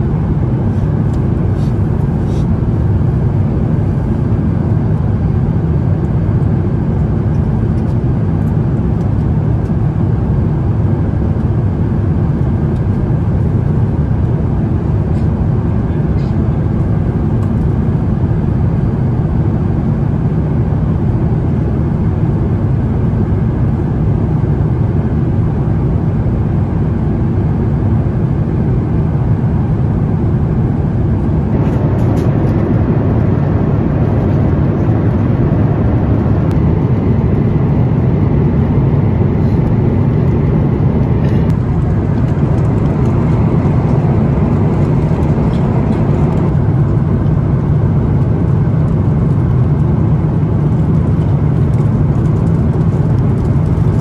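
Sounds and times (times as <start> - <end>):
airplane cabin rushing hum: 0.0 - 54.0.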